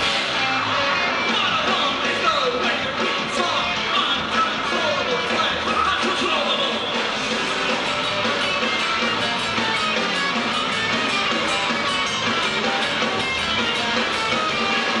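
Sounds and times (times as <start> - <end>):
electric guitar: 0.0 - 15.0
live band music: 0.0 - 15.0.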